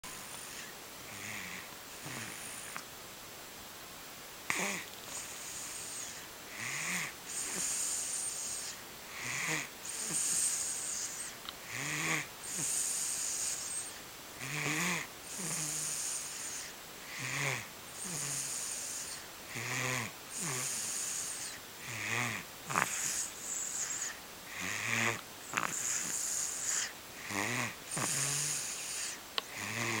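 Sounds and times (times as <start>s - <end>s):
person snoring: 0.3s - 2.8s, 4.5s - 30.0s.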